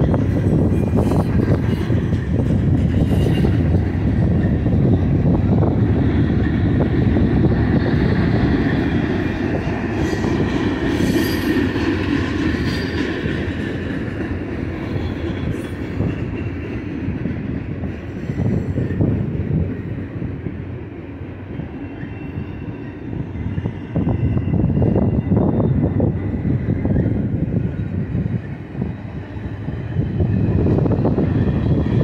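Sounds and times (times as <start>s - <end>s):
freight train wheels rumbling on rails: 0.0s - 32.0s.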